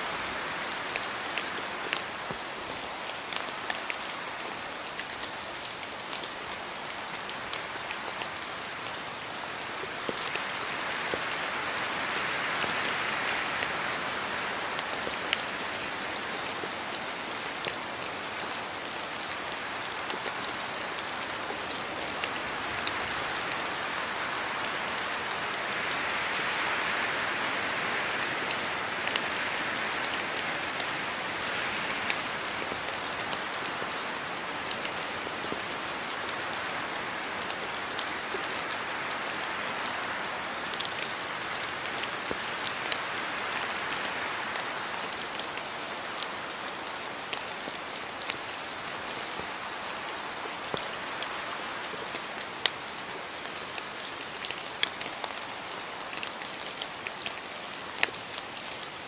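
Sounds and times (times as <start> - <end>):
rain falling and splashing: 0.0 - 59.0.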